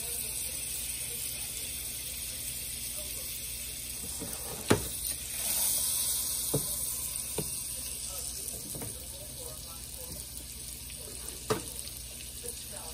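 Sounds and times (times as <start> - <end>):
butter sizzling in frying pan: 0.0 - 12.9.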